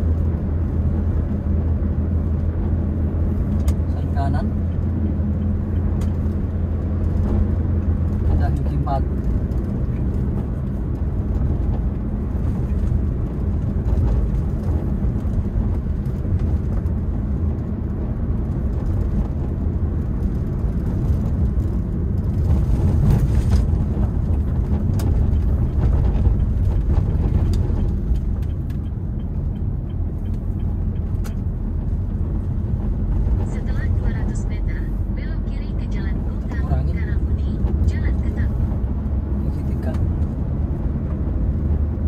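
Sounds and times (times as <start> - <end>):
low engine hum: 0.0 - 42.0
tyre and road noise: 0.0 - 42.0.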